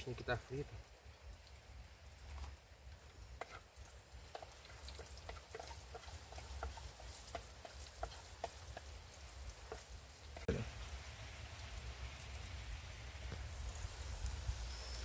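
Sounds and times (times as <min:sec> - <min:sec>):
fish frying in hot oil: 0:00.0 - 0:15.0
oil popping and crackling: 0:00.0 - 0:15.0.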